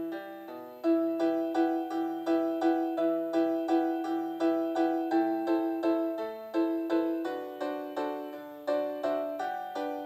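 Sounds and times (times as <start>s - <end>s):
keyboard playing a run of notes: 0.0s - 10.0s.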